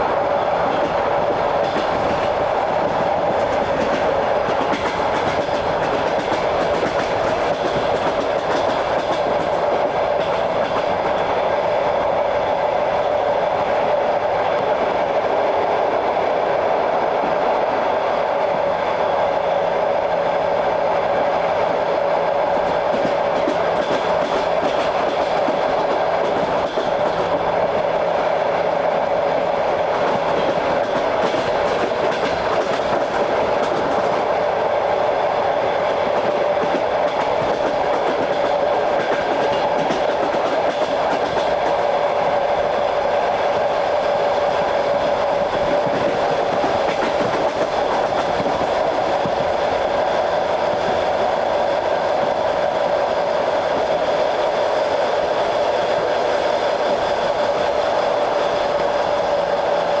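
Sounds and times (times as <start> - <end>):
steady train hum: 0.0 - 60.0
train wheels rolling on rail: 0.0 - 60.0.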